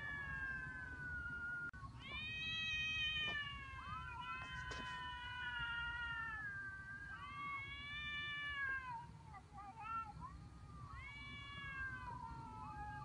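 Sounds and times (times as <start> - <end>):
cats yowling: 0.0 - 9.1, 9.7 - 13.0.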